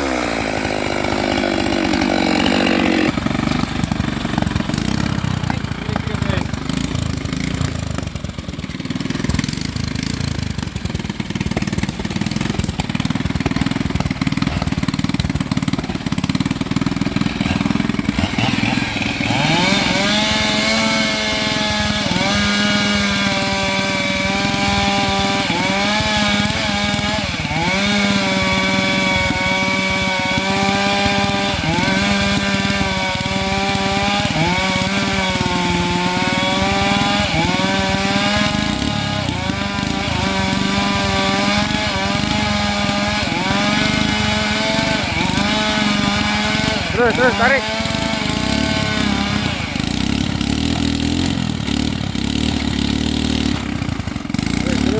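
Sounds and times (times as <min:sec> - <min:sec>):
chainsaw cutting wood: 0:00.0 - 0:54.9
engine running at low speed: 0:00.0 - 0:54.9.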